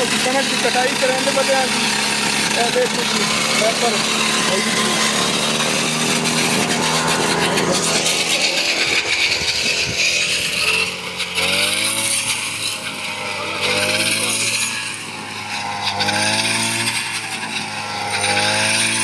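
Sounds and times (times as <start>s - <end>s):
harvester engine running: 0.0s - 17.0s.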